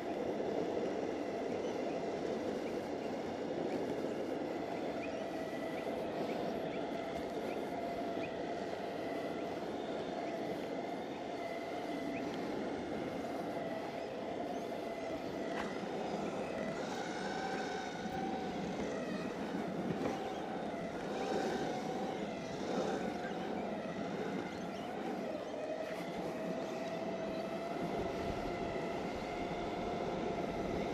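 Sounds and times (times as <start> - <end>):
electric motor whine: 0.0 - 30.9
skateboard wheels rumbling on asphalt: 0.0 - 30.9.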